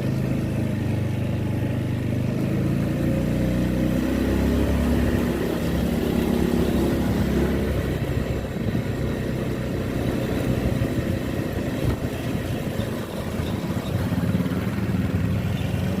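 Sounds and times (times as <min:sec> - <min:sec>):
rumble of passing vehicles: 0:00.0 - 0:16.0
vehicle engine running close by: 0:00.0 - 0:16.0.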